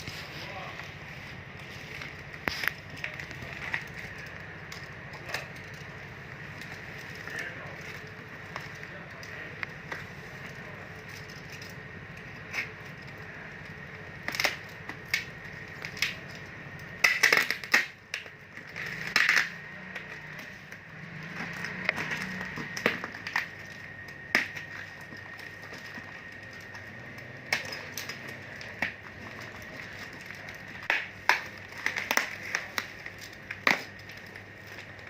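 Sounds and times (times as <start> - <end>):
packaging crinkling and rustling: 0.0 - 35.0.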